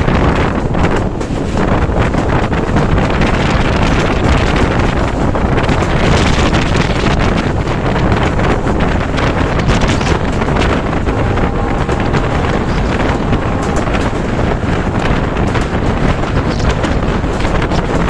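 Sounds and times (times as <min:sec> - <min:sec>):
train running rumble: 0:00.0 - 0:18.0
wind buffeting microphone: 0:00.0 - 0:18.0.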